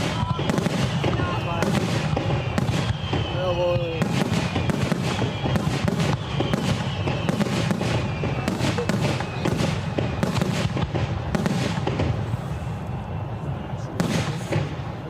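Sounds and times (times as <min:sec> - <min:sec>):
fireworks bursts and crackles: 0:00.0 - 0:15.0.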